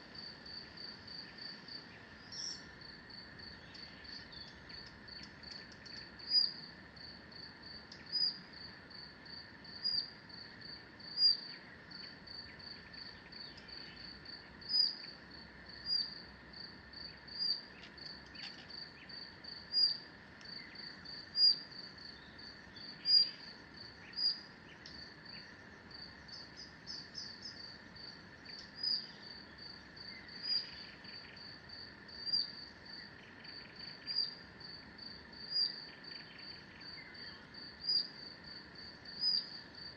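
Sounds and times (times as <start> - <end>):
crickets chirping: 0.0 - 39.9
high insect drone: 0.0 - 39.9.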